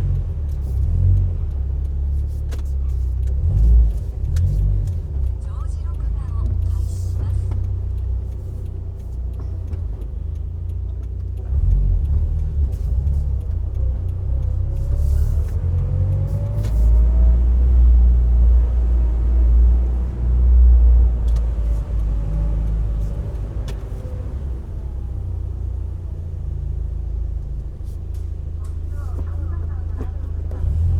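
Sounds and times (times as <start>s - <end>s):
car engine accelerating: 0.0s - 30.9s
tyre and road rumble: 0.0s - 30.9s.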